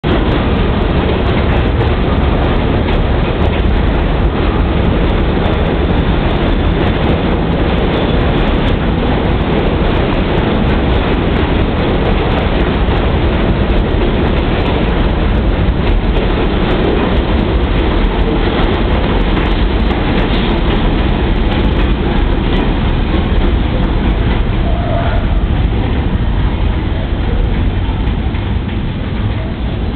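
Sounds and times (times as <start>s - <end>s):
train wheels rumbling on rail: 0.0s - 29.9s
wheels clacking over rail joints: 0.0s - 29.9s.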